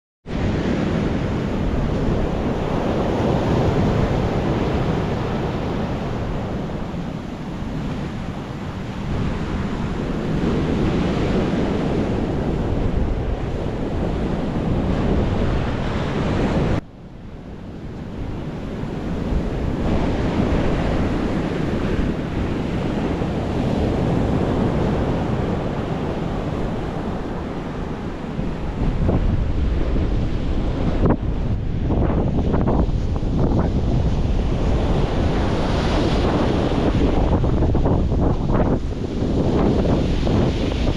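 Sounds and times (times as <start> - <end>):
ocean surf breaking: 0.3 - 40.9
wind buffeting microphone: 0.3 - 40.9.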